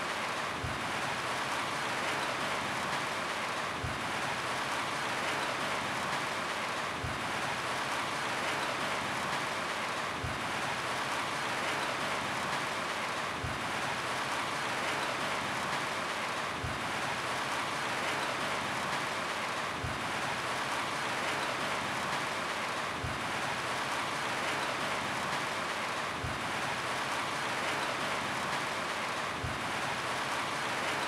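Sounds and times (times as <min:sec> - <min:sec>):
rain on a roof: 0:00.0 - 0:31.0.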